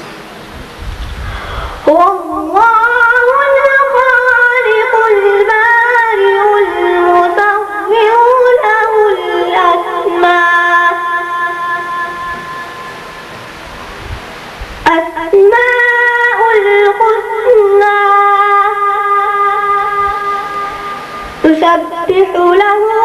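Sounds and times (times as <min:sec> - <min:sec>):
high voice chanting: 0:01.1 - 0:13.5, 0:14.8 - 0:23.0.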